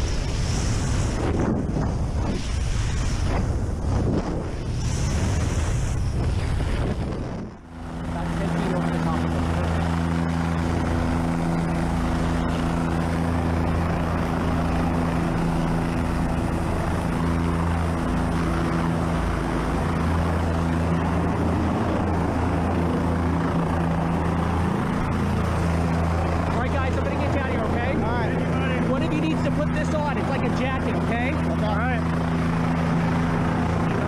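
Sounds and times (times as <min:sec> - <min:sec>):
helicopter hovering overhead: 0:00.0 - 0:34.0.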